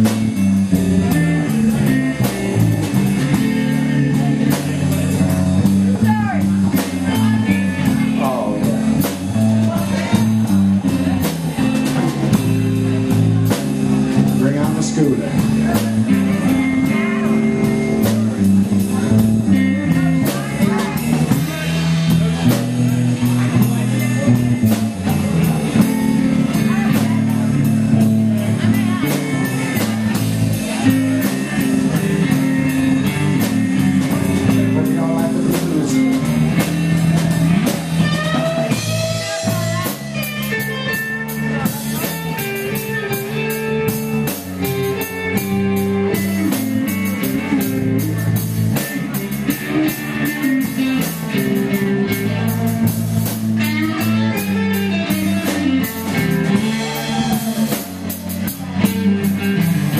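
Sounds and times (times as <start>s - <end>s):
blues-rock band with guitar and drums: 0.0s - 59.9s.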